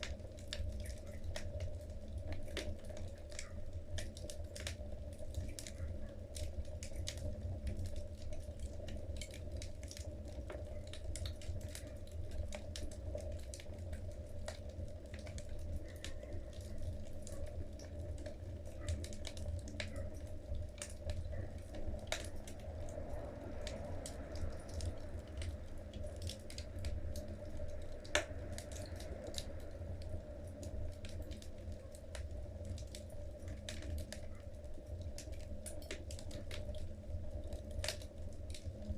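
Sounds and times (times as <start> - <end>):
logs crackling in fireplace: 0.0 - 38.9
low fire rumble: 0.0 - 38.9.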